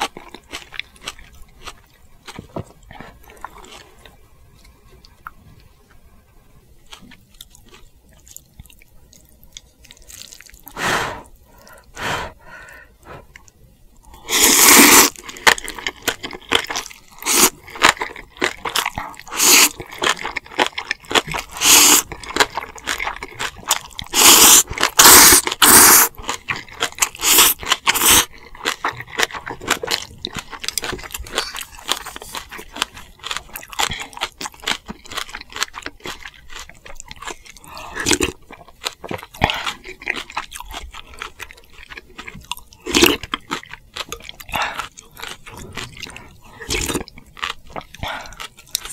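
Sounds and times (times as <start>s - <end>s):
person chewing and crunching food: 0.0s - 48.9s.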